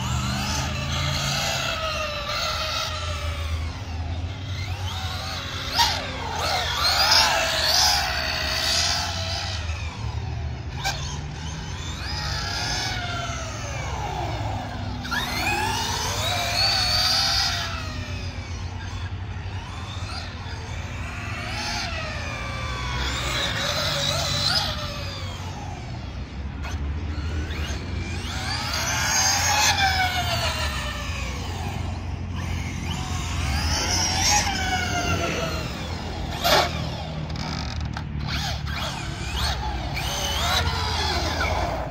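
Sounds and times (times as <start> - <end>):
rc car electric motor whining: 0.0 - 41.9.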